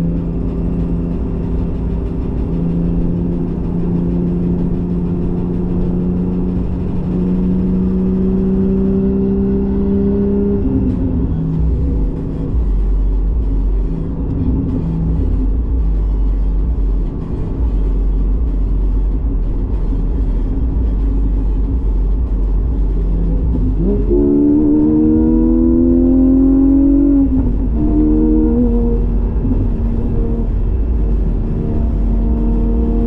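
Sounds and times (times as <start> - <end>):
car engine droning and revving: 0.0 - 33.0.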